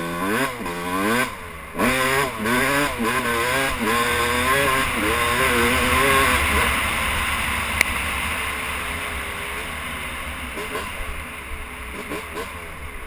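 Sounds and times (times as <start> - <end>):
dirt bike engine: 0.0 - 13.0.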